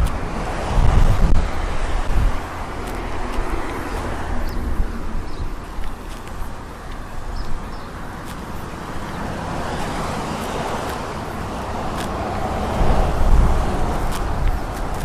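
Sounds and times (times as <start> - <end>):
ocean waves washing onto beach: 0.0 - 15.0.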